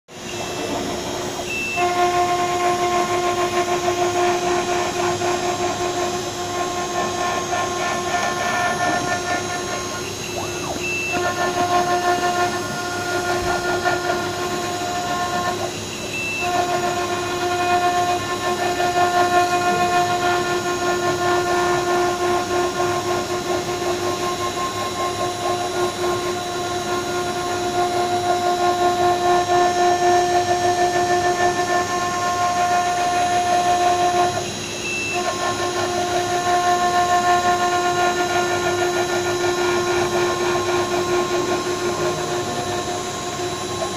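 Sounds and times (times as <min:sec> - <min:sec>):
cutter milling brick: 0:00.1 - 0:43.9
milling machine spindle whine: 0:00.1 - 0:43.9.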